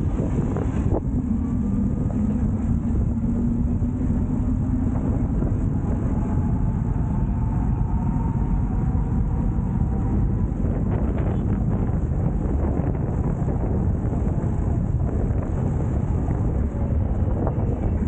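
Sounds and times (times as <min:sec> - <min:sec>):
wind rumbling over microphone: 0:00.0 - 0:18.0.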